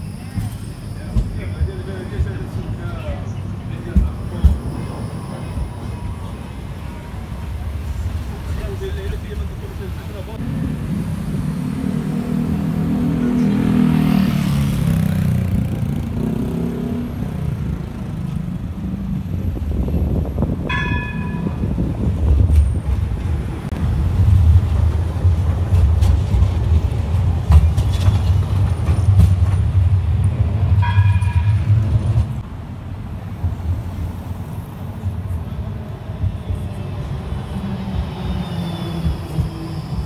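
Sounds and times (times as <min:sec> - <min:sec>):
tram rumbling along track: 0:00.0 - 0:40.0.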